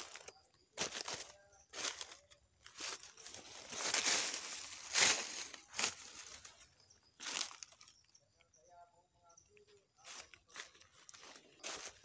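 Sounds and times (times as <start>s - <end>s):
footsteps crunching through dry leaves: 0.0s - 7.9s, 10.0s - 12.0s.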